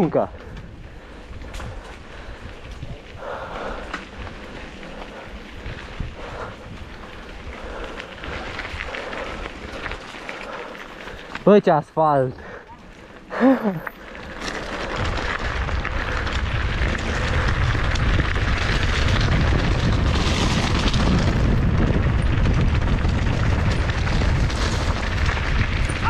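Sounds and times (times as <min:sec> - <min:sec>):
wind buffeting microphone: 0:00.0 - 0:11.5, 0:14.0 - 0:26.0
tyres rattling over gravel: 0:00.0 - 0:26.0.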